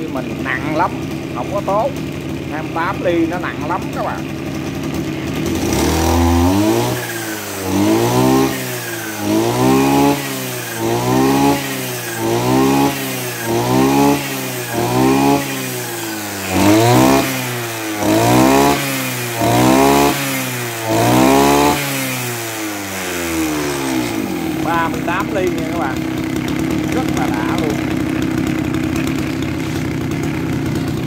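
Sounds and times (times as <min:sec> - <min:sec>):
brush cutter engine revving: 0:00.0 - 0:31.0.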